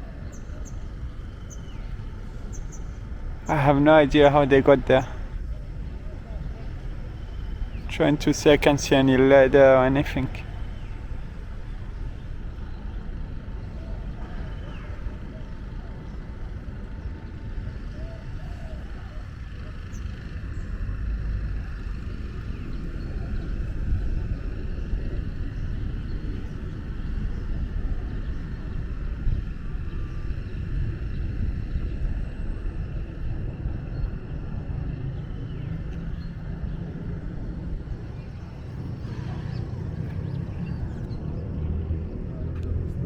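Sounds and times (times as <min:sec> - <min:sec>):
fluctuating noisy haze: 0:00.0 - 0:41.1
low outdoor rumble: 0:00.0 - 0:43.0.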